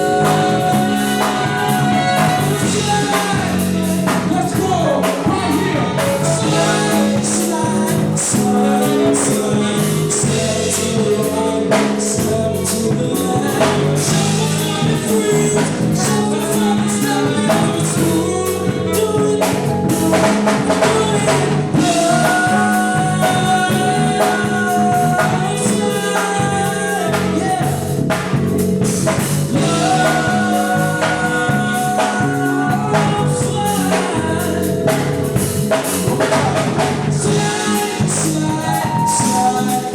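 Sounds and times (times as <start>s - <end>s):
drum kit beat: 0.0s - 39.9s
live rhythm and blues band: 0.0s - 39.9s
person singing: 0.0s - 39.9s.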